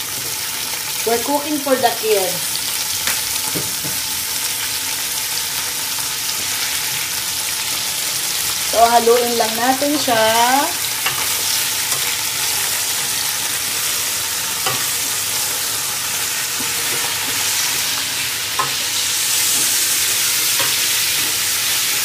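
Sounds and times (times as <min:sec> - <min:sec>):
oil sizzling in a pot: 0:00.0 - 0:22.0.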